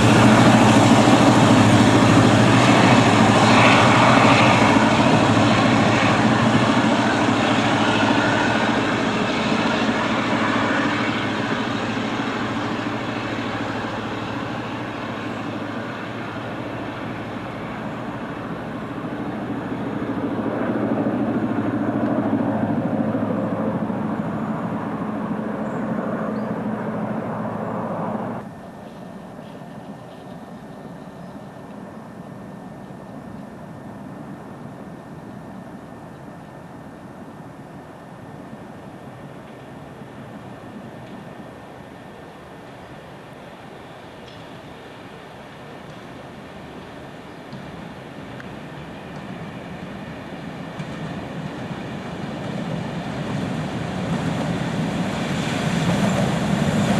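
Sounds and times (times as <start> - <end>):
diesel locomotive engine humming: 0.0 - 56.9.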